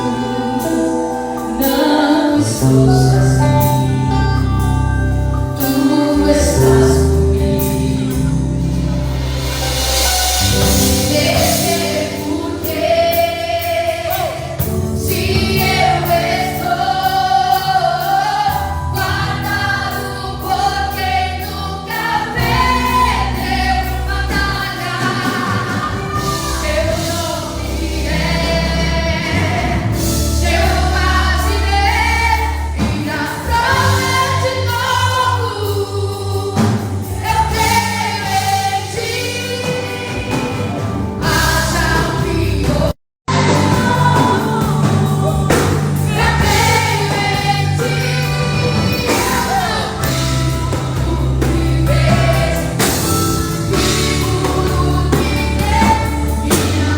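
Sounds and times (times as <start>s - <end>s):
group of voices singing: 0.0s - 4.2s, 5.6s - 56.9s
heavy bass: 0.0s - 56.9s.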